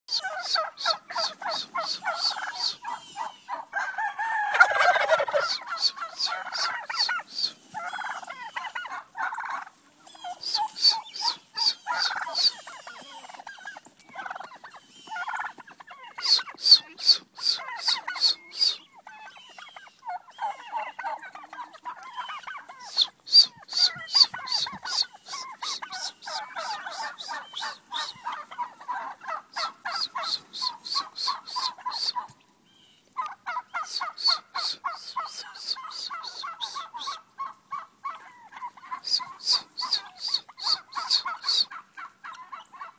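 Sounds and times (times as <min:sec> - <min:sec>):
turkeys gobbling: 0:00.1 - 0:42.9.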